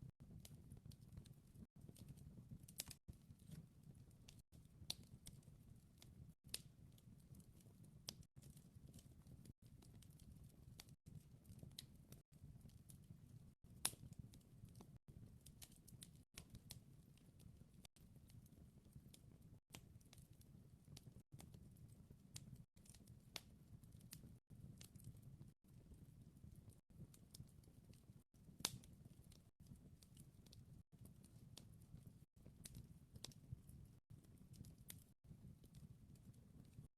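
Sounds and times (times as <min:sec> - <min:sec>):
wood fire crackling: 0:00.1 - 0:36.9.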